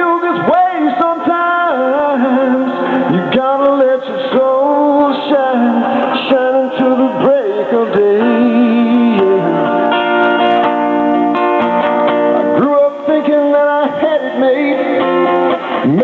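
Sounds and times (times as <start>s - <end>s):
man singing: 0.0s - 10.6s, 12.4s - 16.0s
guitar playing: 0.0s - 16.0s.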